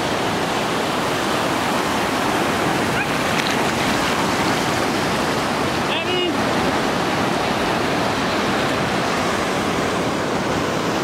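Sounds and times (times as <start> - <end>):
surf washing onto sand: 0.0 - 11.0.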